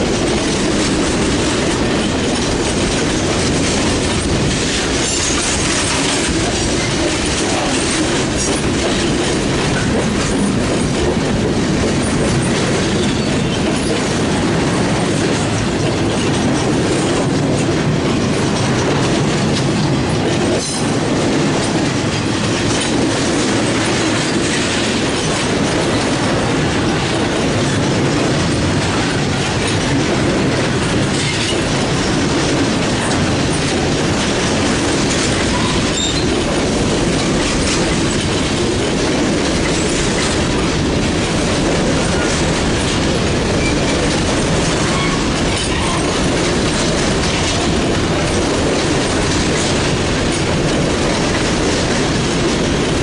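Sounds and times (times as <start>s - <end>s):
clickety-clack over rail joints: 0.0s - 53.0s
train wheels rumbling on rail: 0.0s - 53.0s.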